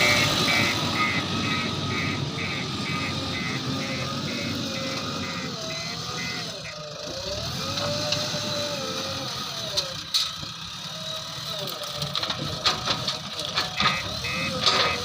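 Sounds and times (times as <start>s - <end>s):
backhoe diesel engine working: 0.0s - 15.0s.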